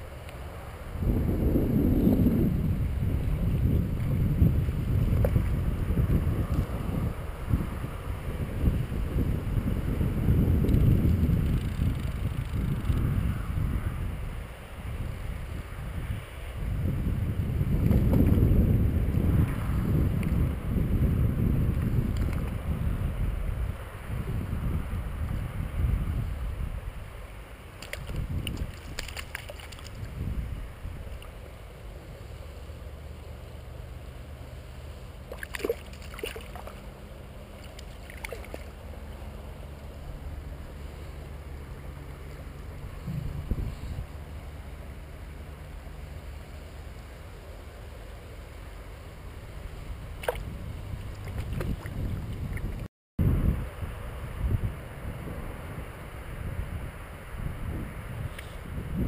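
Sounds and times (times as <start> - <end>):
river water rumble: 0.0 - 59.0
wind buffeting microphone: 0.8 - 27.2, 27.8 - 31.4, 35.3 - 44.4, 49.3 - 59.0.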